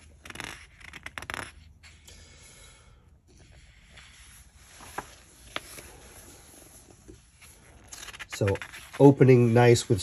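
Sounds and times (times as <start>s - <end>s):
book page turning: 0.0s - 2.0s, 3.4s - 10.0s.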